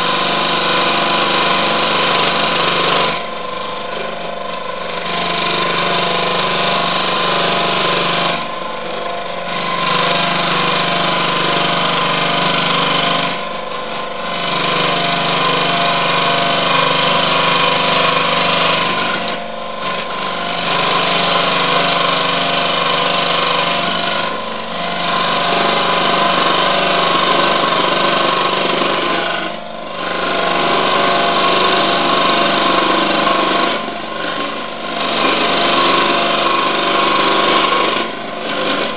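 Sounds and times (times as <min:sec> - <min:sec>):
scroll saw cutting metal: 0:00.0 - 0:38.9.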